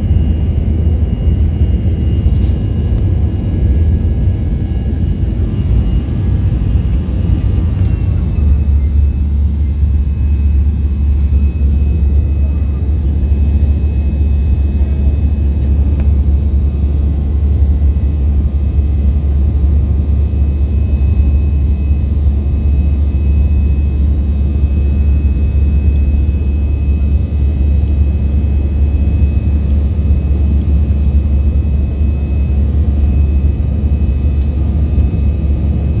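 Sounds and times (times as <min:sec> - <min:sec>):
aircraft cabin engine rumble: 0:00.0 - 0:36.0.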